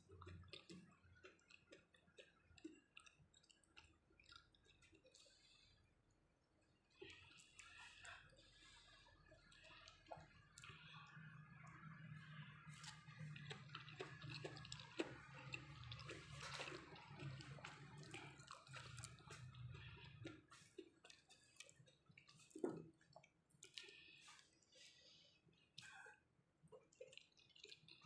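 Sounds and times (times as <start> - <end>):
chewing with mouth clicks: 0.0 - 28.0.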